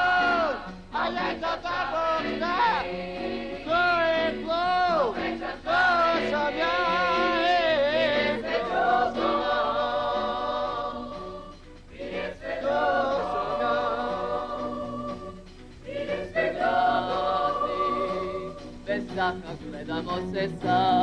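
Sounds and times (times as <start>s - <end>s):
choir singing with vibrato: 0.0s - 21.0s.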